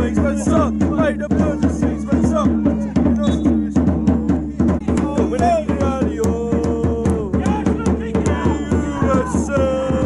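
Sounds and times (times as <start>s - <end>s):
crowd chanting a song: 0.0s - 10.0s
steady drum beat: 0.0s - 10.0s.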